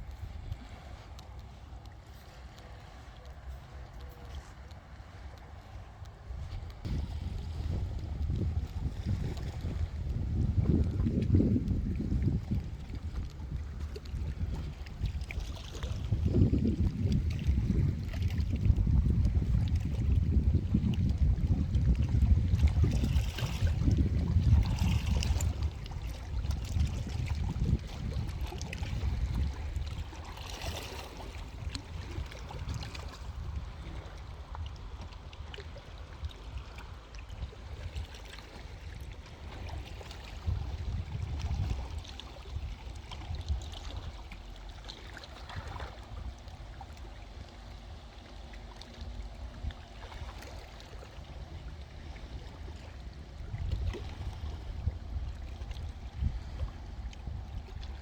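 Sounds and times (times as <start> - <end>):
water lapping at shore: 0.0 - 58.0
wind buffeting microphone: 0.0 - 58.0.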